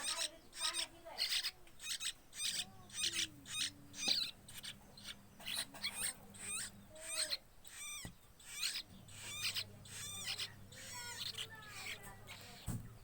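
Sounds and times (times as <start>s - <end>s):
fledgling bird cheeping: 0.0s - 13.0s
faint low hum: 0.1s - 13.0s.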